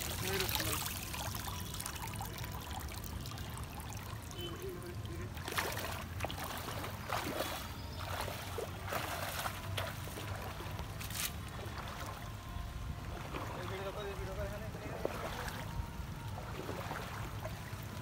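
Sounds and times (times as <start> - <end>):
bare feet splashing in water: 0.0 - 18.0
water trickling from net: 0.0 - 18.0.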